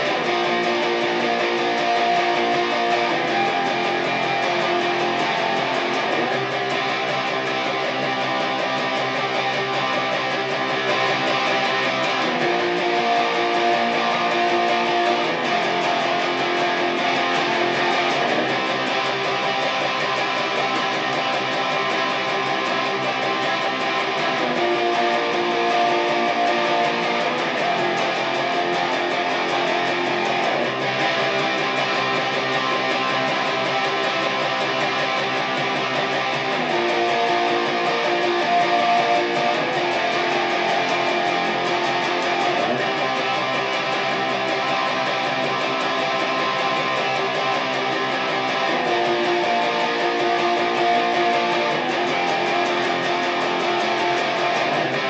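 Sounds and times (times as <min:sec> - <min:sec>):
strummed guitar chords: 0:00.0 - 0:55.0.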